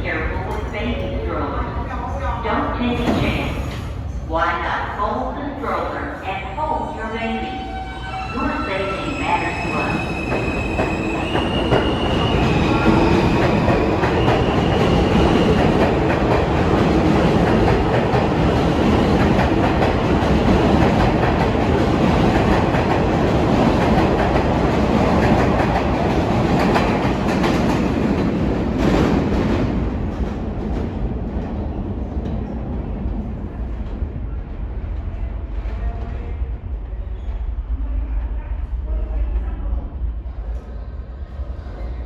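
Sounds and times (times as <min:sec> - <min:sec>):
subway train rumble: 0:00.0 - 0:42.0.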